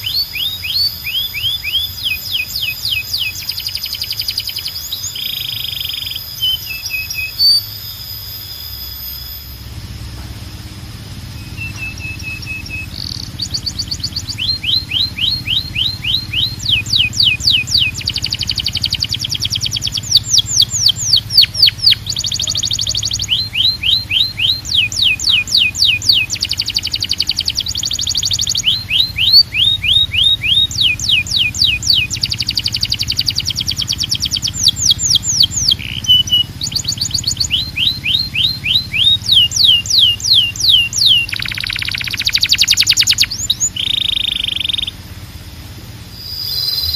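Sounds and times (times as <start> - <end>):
canary singing trills: 0.0 - 46.9
steady low hum: 0.0 - 46.9.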